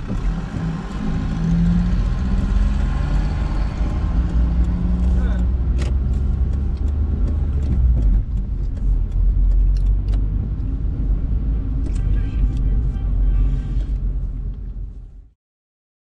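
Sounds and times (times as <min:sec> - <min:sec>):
car engine and tyres rumbling: 0:00.0 - 0:15.4.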